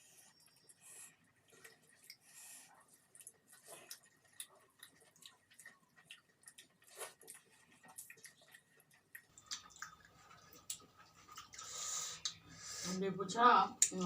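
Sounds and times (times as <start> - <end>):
wet chewing sounds: 0.0 - 12.8.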